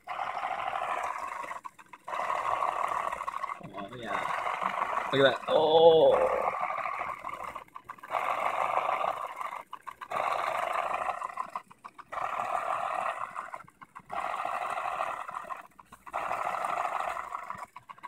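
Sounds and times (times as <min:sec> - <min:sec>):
small electric pumps running: 0:00.0 - 0:18.0.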